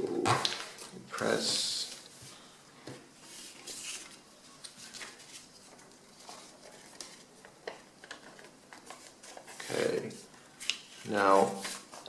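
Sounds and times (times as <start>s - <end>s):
paper rustling and crinkling: 0.2s - 2.1s, 3.3s - 12.0s.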